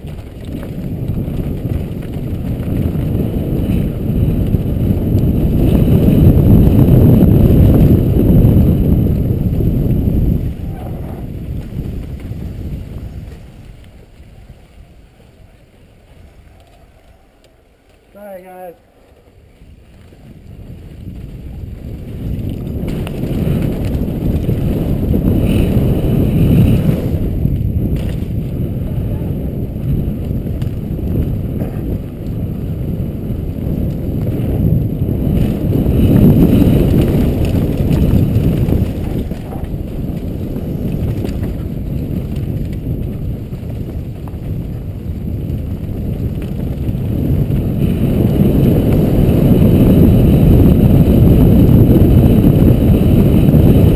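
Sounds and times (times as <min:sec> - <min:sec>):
bike tyre and frame rumble: 0:00.0 - 0:53.9
wind on microphone: 0:00.0 - 0:53.9.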